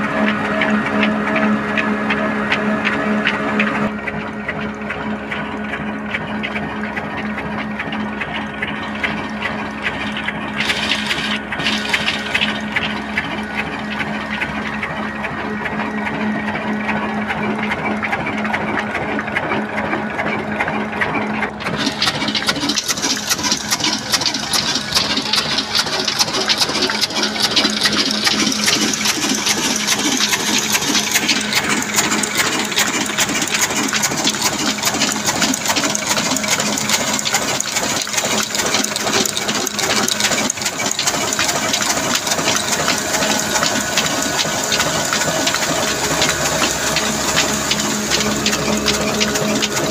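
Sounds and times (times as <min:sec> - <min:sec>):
diesel engine clattering: 0:00.0 - 0:49.9.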